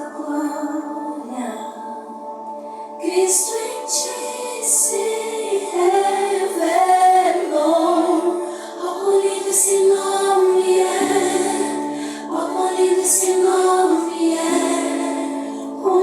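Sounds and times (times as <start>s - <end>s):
sustained backing chords: 0.0s - 16.0s
women singing worship song: 0.0s - 16.0s.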